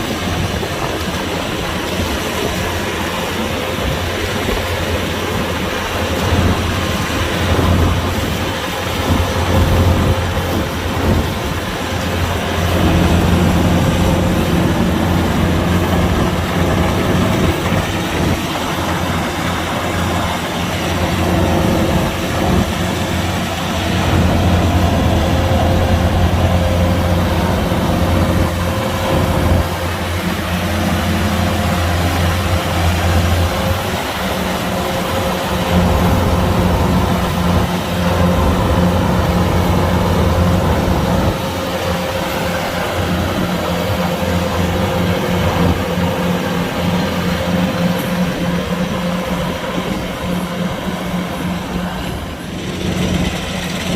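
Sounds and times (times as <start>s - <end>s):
combine harvester engine and rattle: 0.0s - 53.9s.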